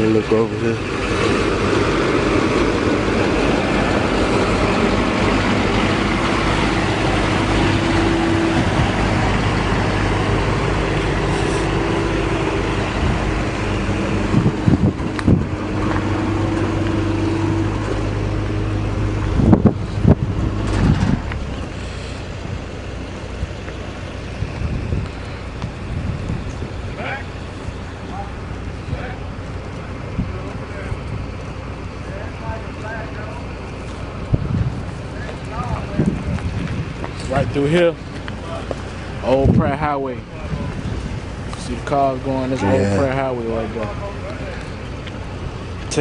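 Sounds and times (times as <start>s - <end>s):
car engine running: 0.0s - 46.0s
road noise: 0.0s - 46.0s.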